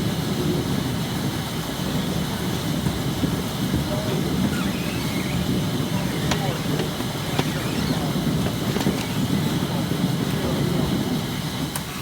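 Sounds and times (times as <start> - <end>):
washing machine rumbling clatter: 0.0 - 12.0.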